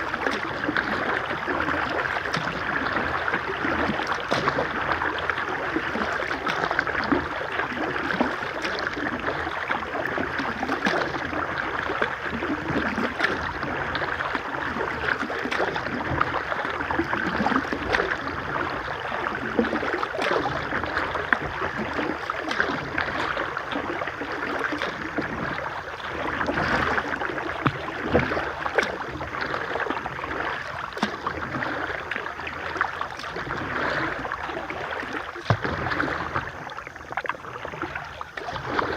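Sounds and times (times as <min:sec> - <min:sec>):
small splashes: 0:00.0 - 0:38.9.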